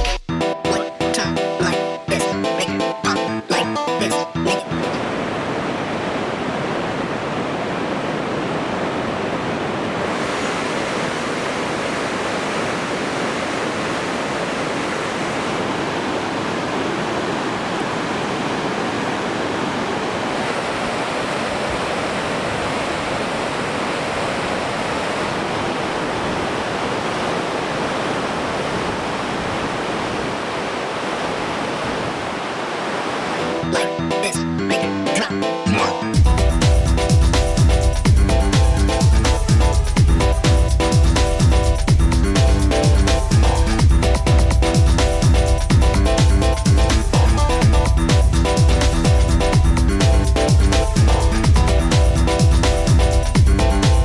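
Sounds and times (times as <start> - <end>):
mountain water rushing: 1.2 - 54.0.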